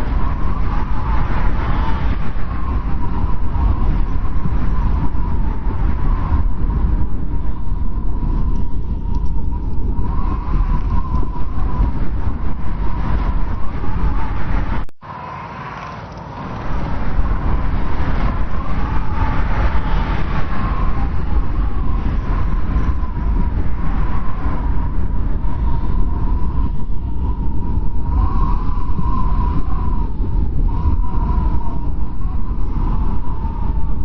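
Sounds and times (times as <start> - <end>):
blizzard wind howling: 0.0 - 34.0.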